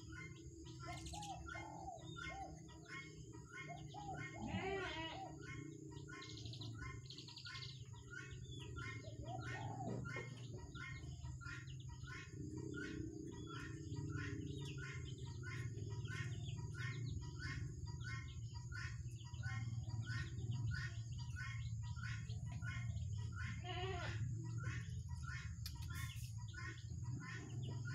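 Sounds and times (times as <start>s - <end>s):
young birds peeping: 0.0s - 27.9s.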